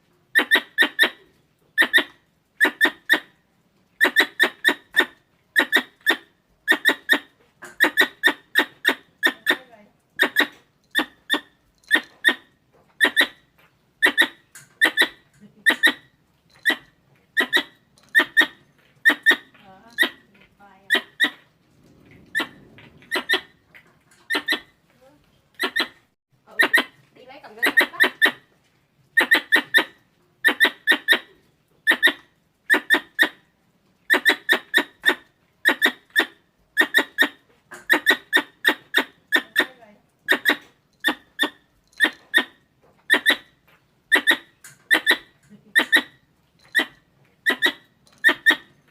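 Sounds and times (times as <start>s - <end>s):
squirrel chirping calls: 0.3s - 3.4s, 4.0s - 21.5s, 22.2s - 23.6s, 24.2s - 24.8s, 25.5s - 28.5s, 29.2s - 33.4s, 34.1s - 48.9s.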